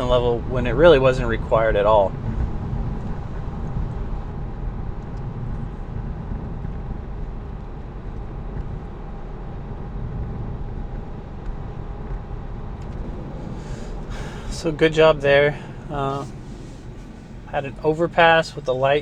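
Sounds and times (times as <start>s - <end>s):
road and tyre noise inside car: 0.0s - 19.0s.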